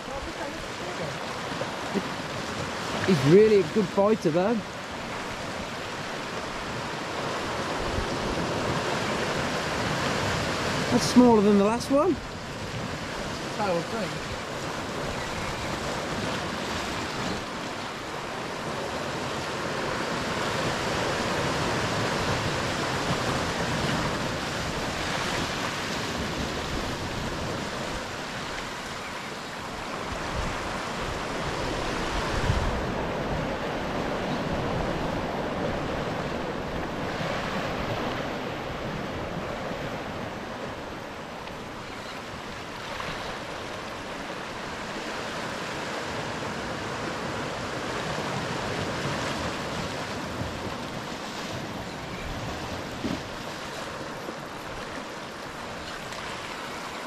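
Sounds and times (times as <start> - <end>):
waves breaking on rocks: 0.0 - 57.0
wind rumbling on microphone: 0.0 - 57.0.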